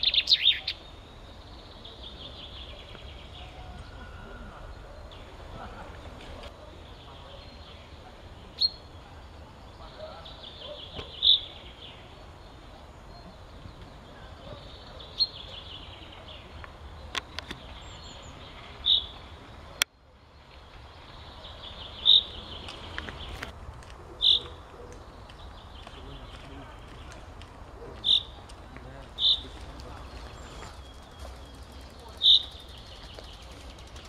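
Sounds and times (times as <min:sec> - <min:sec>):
chaffinch singing: 0:00.0 - 0:23.5, 0:24.2 - 0:27.3, 0:28.0 - 0:34.0.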